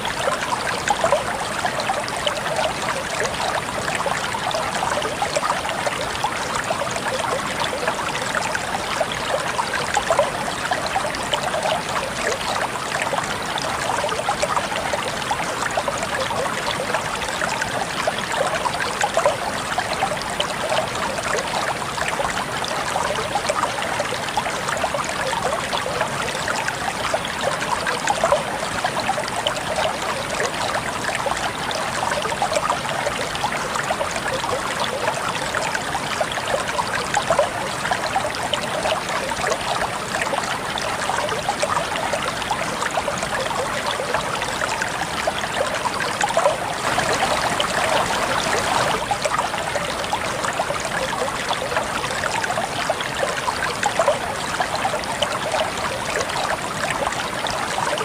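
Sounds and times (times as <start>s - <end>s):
stream water over stones: 0.0s - 58.0s.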